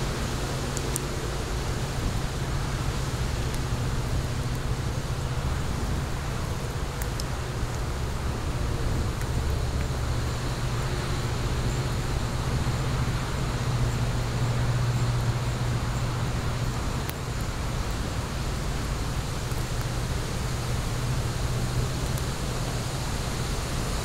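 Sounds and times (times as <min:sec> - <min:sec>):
fire rumbling: 0:00.0 - 0:24.0
fire crackle: 0:00.1 - 0:24.0.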